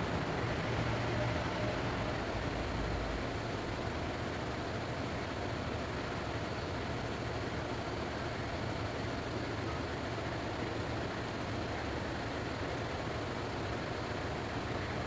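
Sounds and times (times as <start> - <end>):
urban background rumble: 0.0 - 15.0.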